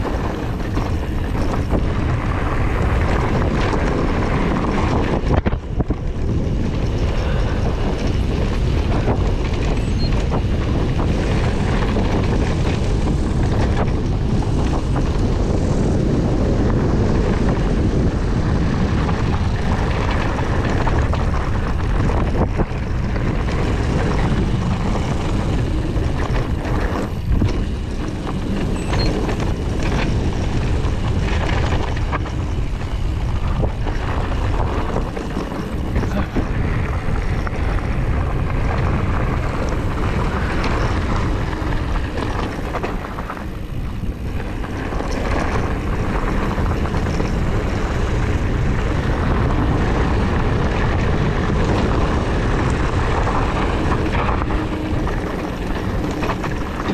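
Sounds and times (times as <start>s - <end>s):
bike knocking and rattling: 0.0s - 56.9s
tyres rumbling on dirt: 0.0s - 56.9s
wind buffeting microphone: 0.0s - 56.9s.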